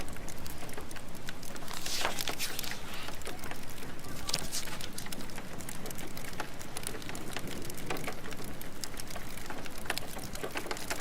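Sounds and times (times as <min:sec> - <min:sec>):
steady rain: 0:00.0 - 0:11.0
wood fire popping and crackling: 0:00.0 - 0:11.0.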